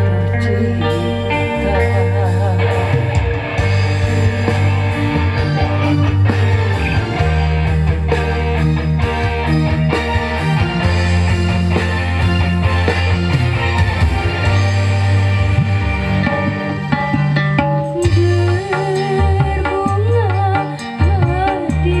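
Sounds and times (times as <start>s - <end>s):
loud music with heavy bass: 0.0s - 20.0s.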